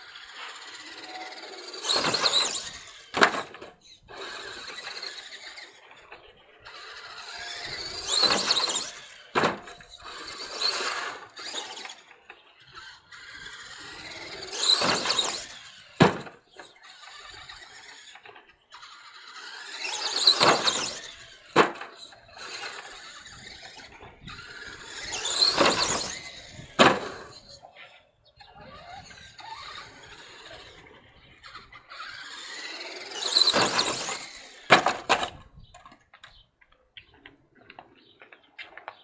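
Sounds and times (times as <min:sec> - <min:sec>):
rc truck motor whining: 0:00.0 - 0:36.5.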